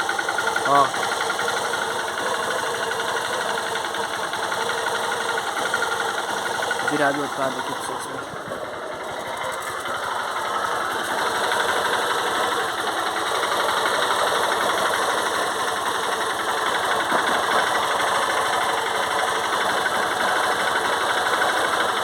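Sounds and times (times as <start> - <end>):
motorcycle engine idling with knocking: 0.0 - 22.0.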